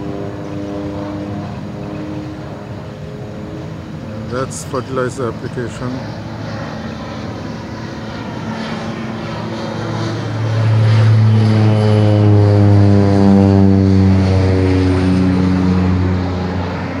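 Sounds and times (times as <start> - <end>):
propeller plane flying overhead: 0.0 - 17.0.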